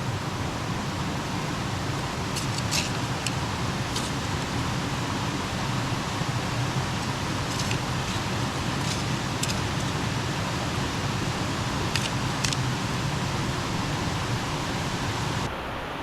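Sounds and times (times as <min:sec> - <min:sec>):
river water rushing: 0:00.0 - 0:15.5.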